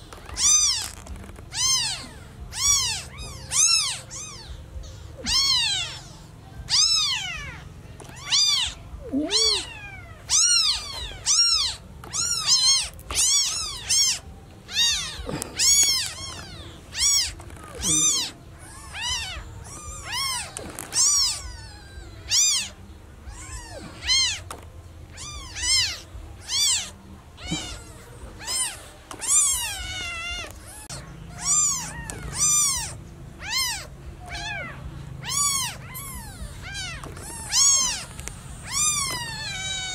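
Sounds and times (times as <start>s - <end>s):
newborn kittens meowing: 0.1s - 39.9s.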